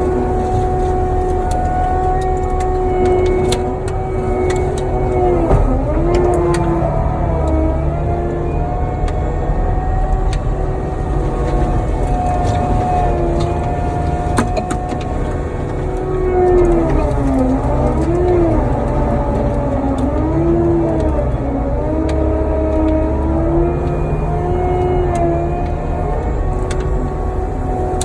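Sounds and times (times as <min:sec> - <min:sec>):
diesel engine and hydraulic mulcher: 0:00.0 - 0:28.0.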